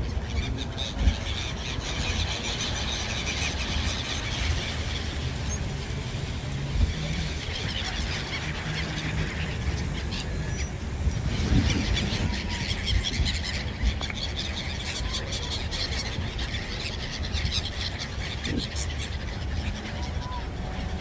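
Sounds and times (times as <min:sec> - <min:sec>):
gulls calling: 0:00.0 - 0:21.0.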